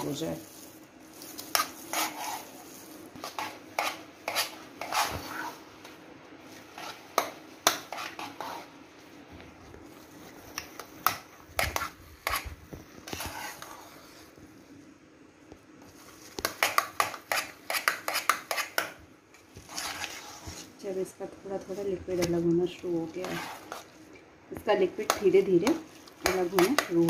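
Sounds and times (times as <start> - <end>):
hand churning cream in metal bowl: 0.0 - 8.8, 9.9 - 14.3, 16.1 - 20.9, 21.6 - 27.0.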